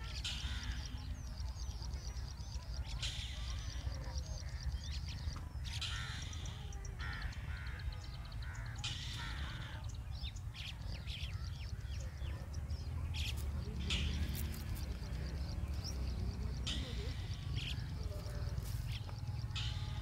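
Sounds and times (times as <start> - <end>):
bird repeated calls: 0.0 - 20.0
birds chirping: 0.0 - 20.0.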